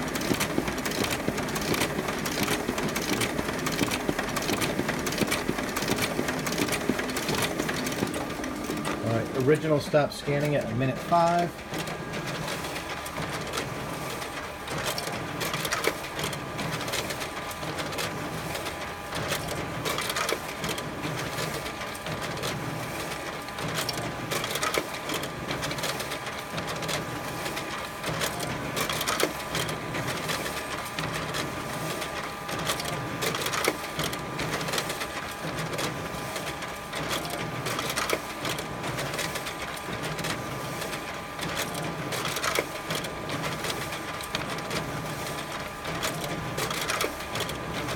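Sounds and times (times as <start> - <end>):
copier printing with whir: 0.0 - 47.9
fast ticking of paper feeding: 0.0 - 47.9.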